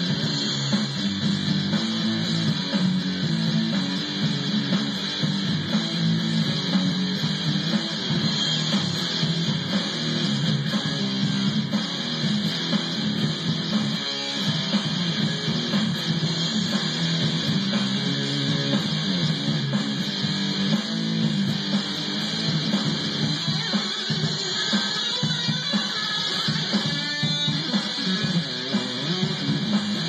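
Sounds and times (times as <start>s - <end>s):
electric guitar solo: 0.0s - 30.0s.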